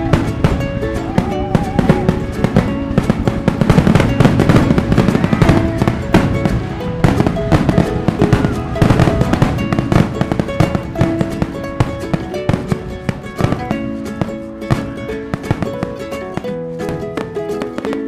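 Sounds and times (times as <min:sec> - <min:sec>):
fireworks bangs and crackles: 0:00.0 - 0:18.0
music with held notes: 0:00.0 - 0:18.0.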